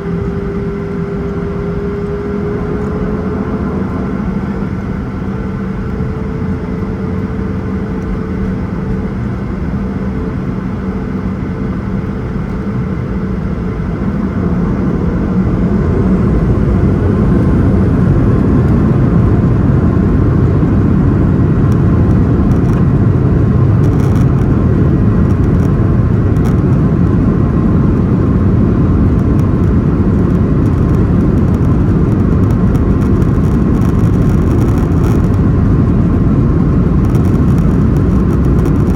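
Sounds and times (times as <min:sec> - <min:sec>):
faint rising engine whine: 0:00.0 - 0:38.9
jet engines rumbling in cabin: 0:00.0 - 0:38.9.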